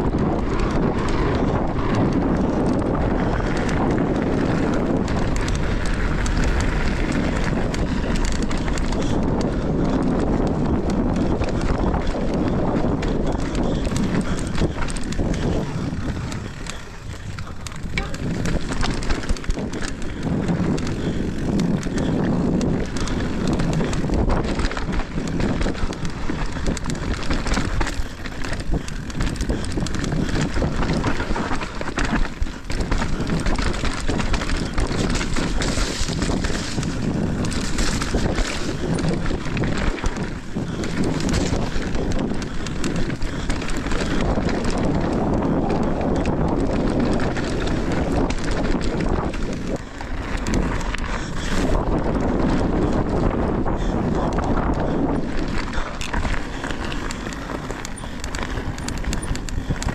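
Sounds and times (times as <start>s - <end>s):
bike rattling: 0.0s - 59.9s
bike tyres rolling on dirt: 0.0s - 59.9s
wind buffeting microphone: 0.0s - 59.9s.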